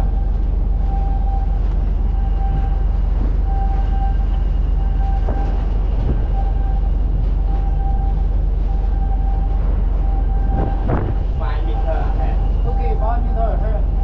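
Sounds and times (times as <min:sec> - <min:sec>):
ship machinery rumble: 0:00.0 - 0:14.0.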